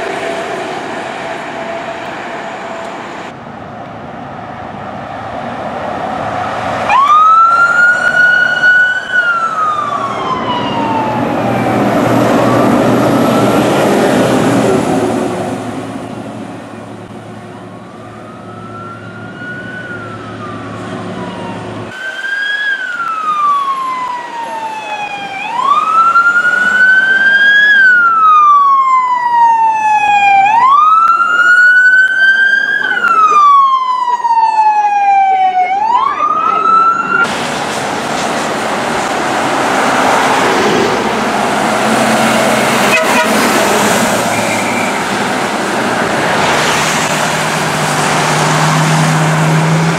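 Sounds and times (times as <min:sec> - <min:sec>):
heavy truck engine rumbling: 0:00.0 - 0:29.2, 0:36.0 - 0:49.9
fire truck siren wailing: 0:05.7 - 0:49.9.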